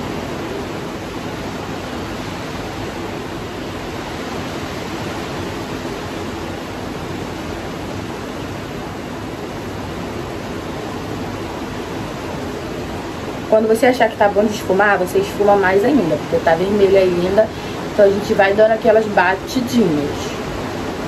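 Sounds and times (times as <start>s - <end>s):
room noise hiss: 0.0s - 21.0s.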